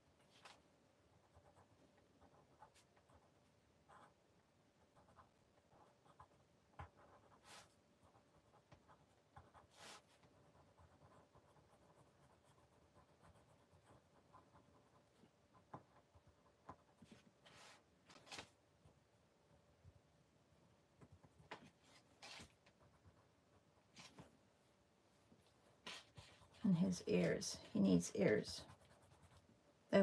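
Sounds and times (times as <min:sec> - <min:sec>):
pencil scratching on paper: 0:00.3 - 0:04.2, 0:04.8 - 0:18.5, 0:21.0 - 0:24.3, 0:25.8 - 0:30.0.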